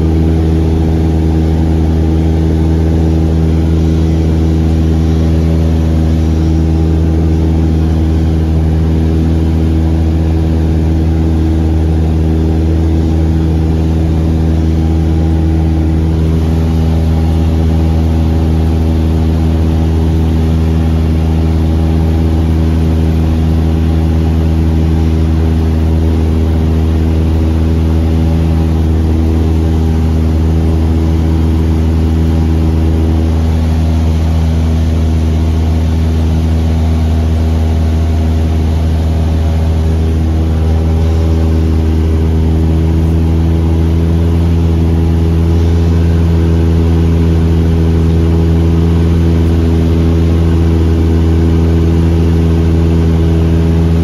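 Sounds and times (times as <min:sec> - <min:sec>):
aircraft engine cabin hum: 0:00.0 - 0:54.0.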